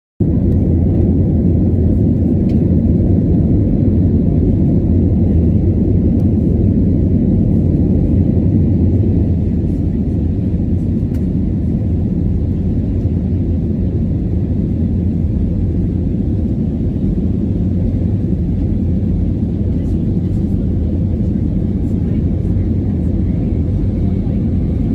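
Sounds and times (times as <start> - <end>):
aircraft cabin engine rumble: 0.2 - 24.9.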